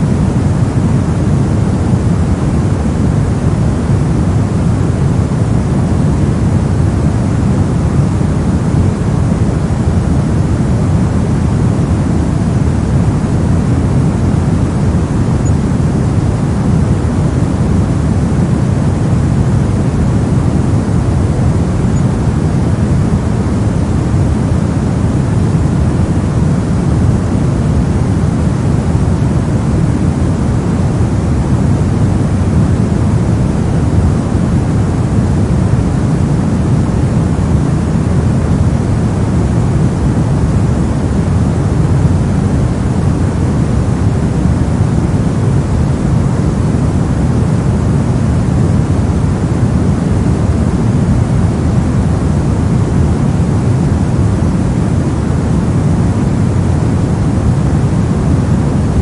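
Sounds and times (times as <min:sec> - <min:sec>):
brown noise: 0:00.0 - 0:59.0.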